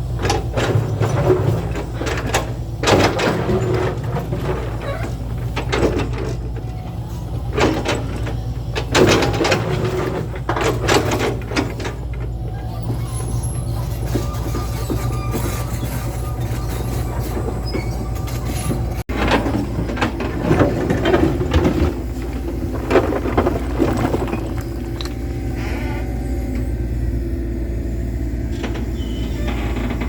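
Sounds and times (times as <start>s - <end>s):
clattering knocks and scrapes: 0.2s - 26.0s.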